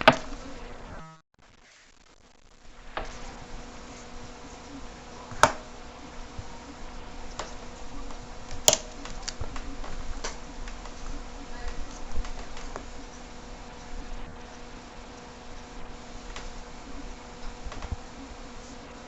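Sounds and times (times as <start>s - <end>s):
low electrical buzz: 0.0s - 1.2s, 1.8s - 19.0s
sharp clicks: 2.2s - 18.8s.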